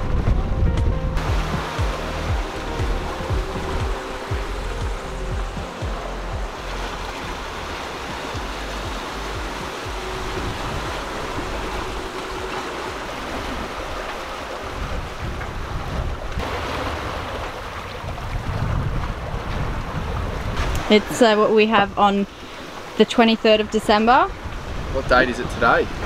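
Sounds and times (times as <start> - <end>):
waves washing along a hull: 0.0 - 26.0
wind: 0.0 - 26.0.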